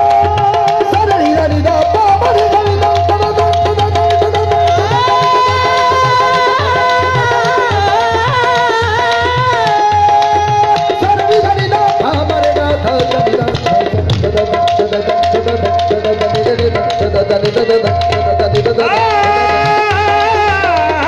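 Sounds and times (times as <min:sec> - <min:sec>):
hand drum rhythm: 0:00.0 - 0:21.0
harmonium melody: 0:00.0 - 0:21.0.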